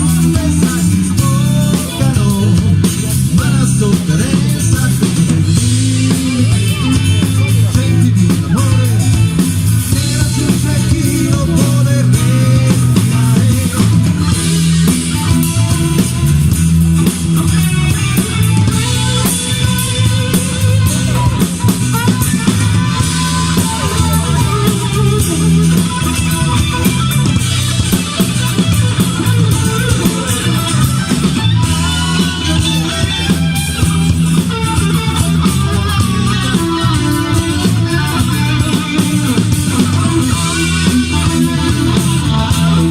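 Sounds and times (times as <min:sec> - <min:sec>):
bass guitar: 0:00.0 - 0:42.9
drum kit: 0:00.0 - 0:42.9
electric guitar: 0:00.0 - 0:42.9.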